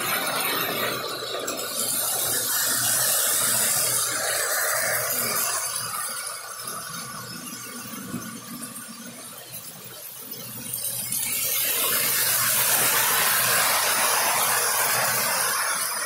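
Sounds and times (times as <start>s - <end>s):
hiss: 0.0s - 16.0s
model train wheels rattling on rails: 0.0s - 16.0s.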